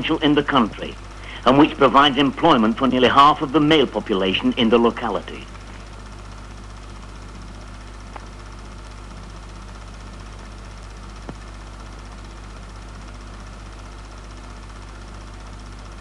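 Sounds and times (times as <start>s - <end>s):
film soundtrack hum and hiss: 0.0s - 16.0s.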